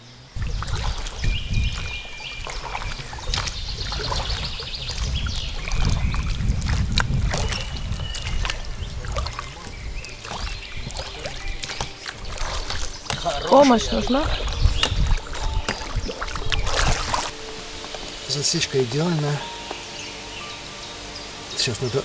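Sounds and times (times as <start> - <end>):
boat low rumbling: 0.0 - 22.0
boat knocking and splashing: 0.4 - 19.9.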